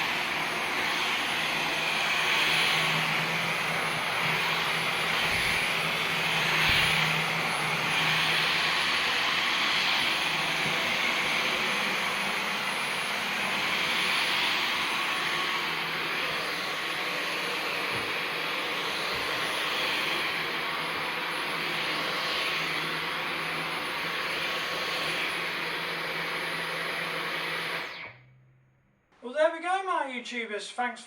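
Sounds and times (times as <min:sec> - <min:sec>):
cordless vacuum running: 0:00.0 - 0:28.4.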